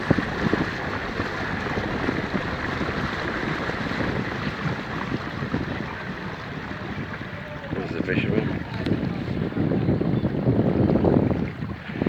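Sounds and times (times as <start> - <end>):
motor boat engine: 0.0 - 12.0
wind on microphone: 0.0 - 12.0.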